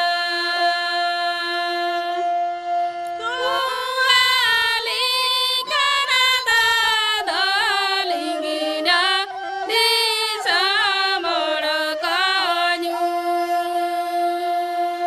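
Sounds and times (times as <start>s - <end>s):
women singing: 0.0s - 15.0s.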